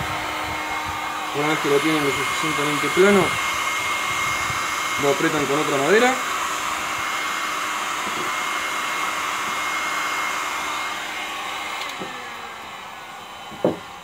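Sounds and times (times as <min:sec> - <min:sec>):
heat gun blowing with fan whine: 0:00.0 - 0:14.0.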